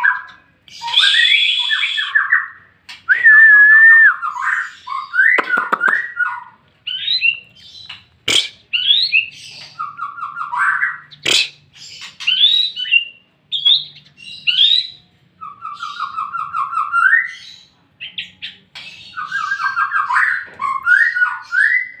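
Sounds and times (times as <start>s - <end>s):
bird song trills and whistles: 0.0s - 22.0s.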